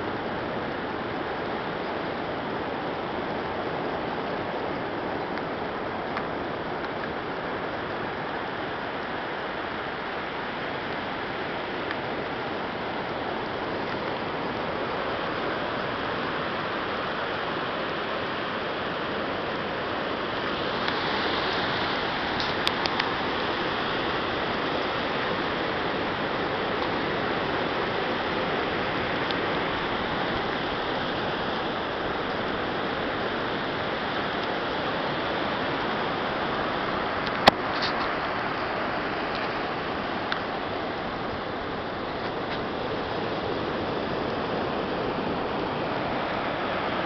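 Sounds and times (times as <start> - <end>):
surf rushing: 0.0 - 47.0.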